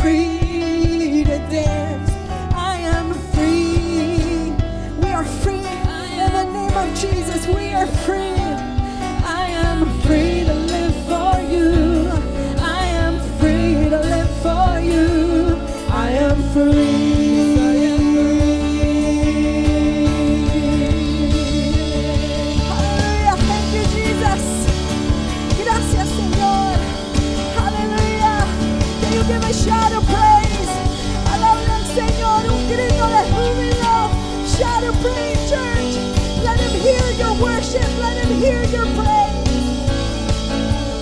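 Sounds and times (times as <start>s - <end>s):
woman singing: 0.0s - 24.8s, 25.5s - 39.9s
backing singer: 0.0s - 41.0s
guitar: 0.0s - 41.0s
steady drum beat: 5.4s - 41.0s.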